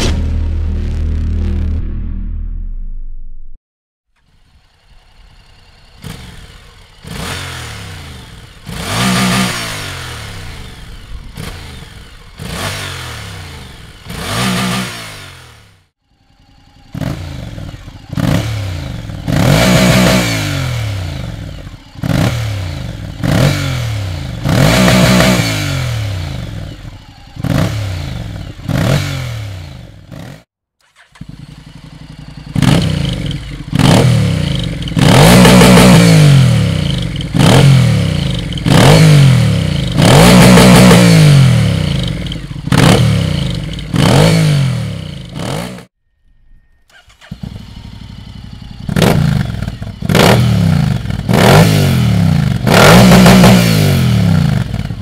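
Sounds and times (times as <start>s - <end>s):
motorcycle engine revving: 4.2s - 46.0s, 46.8s - 55.0s.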